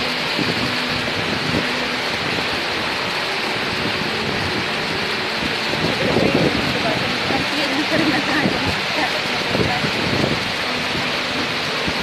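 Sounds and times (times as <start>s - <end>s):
water rushing over rock: 0.0s - 12.0s.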